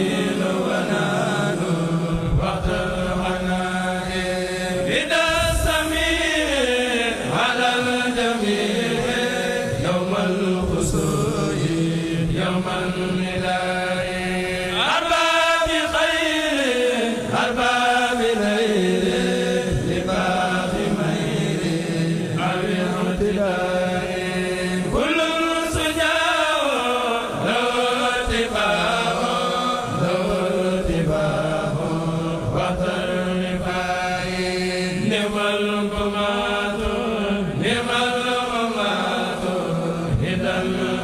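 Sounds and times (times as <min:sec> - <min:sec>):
men chanting together: 0:00.0 - 0:41.0.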